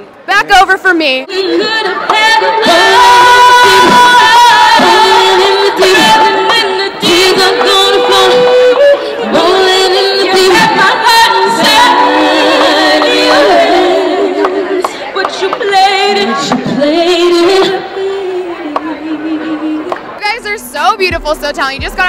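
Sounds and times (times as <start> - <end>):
musical backing: 0.8 - 22.0
female vocal group singing: 1.2 - 20.6.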